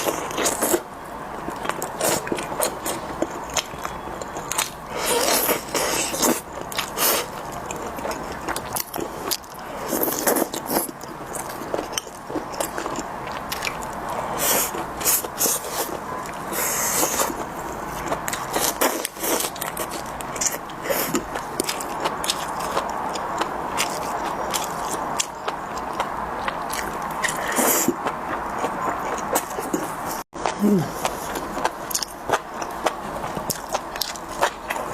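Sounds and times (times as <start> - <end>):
chewing and biting: 0.0 - 34.9.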